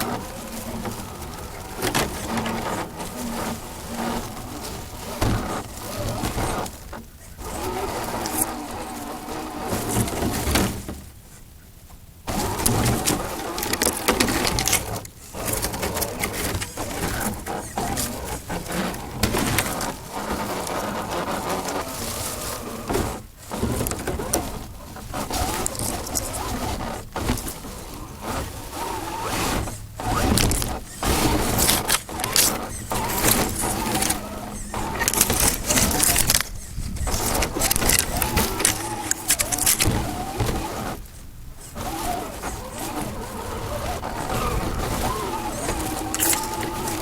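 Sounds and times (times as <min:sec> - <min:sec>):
crackling and crunching over ground: 0:00.0 - 0:47.0
toy car motor rumbling: 0:00.0 - 0:47.0.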